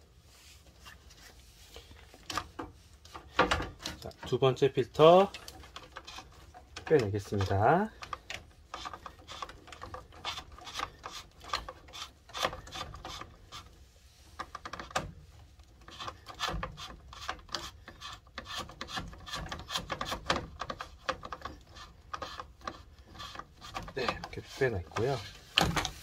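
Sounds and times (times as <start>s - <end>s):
plastic rubbing and scraping: 0.6s - 26.0s.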